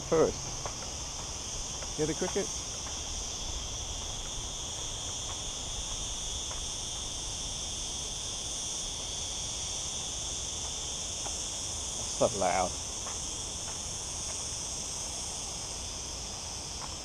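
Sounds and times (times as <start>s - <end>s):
insect shrill song: 0.0s - 17.0s.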